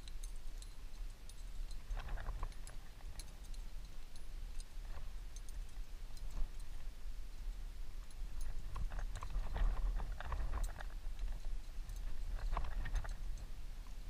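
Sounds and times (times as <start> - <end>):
climbing gear clicks and taps: 0.0 - 14.0
wind rumbling on microphone: 0.0 - 14.0.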